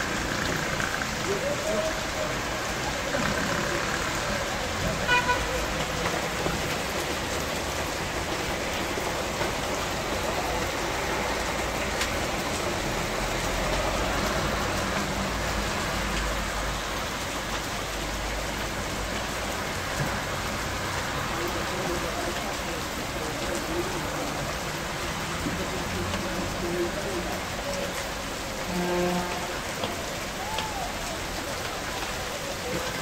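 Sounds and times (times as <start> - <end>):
hail ticks: 0.0 - 33.0
heavy rain on pavement: 0.0 - 33.0.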